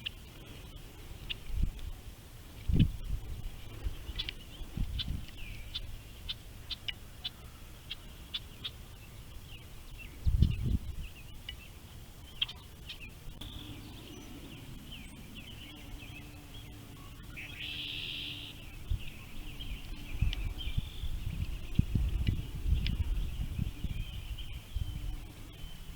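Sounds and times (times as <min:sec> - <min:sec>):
birds chirping: 0:00.0 - 0:25.9
faint steady low hum: 0:00.0 - 0:25.9.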